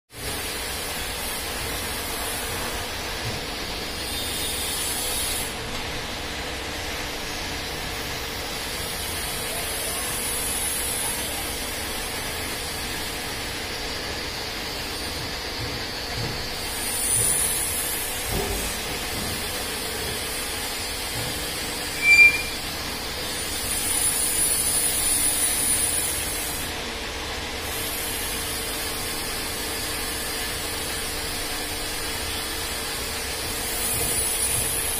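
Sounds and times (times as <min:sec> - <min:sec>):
bending machine humming and hissing: 0:00.2 - 0:34.9.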